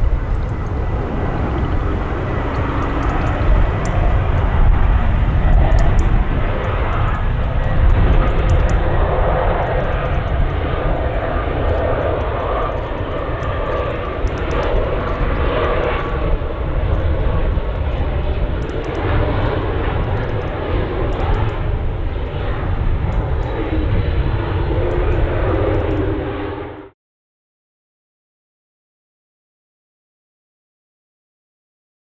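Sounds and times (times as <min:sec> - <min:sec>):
faint humming tones: 0:00.0 - 0:26.6
jet engine rumble: 0:00.0 - 0:27.0.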